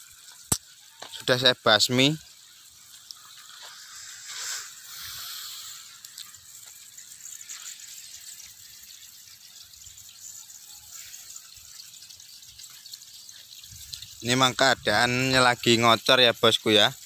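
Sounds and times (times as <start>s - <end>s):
water trickling along furrows: 0.0s - 17.0s.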